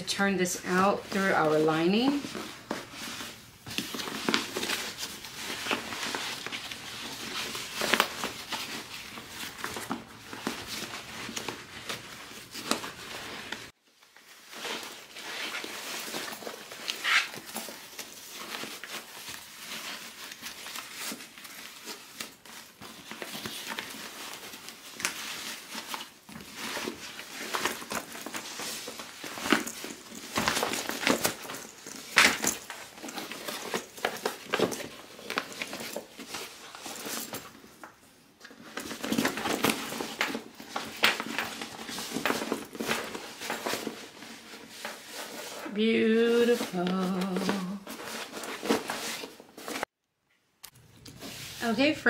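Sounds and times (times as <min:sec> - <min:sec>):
vinyl and canvas crinkling: 0:00.0 - 0:49.9.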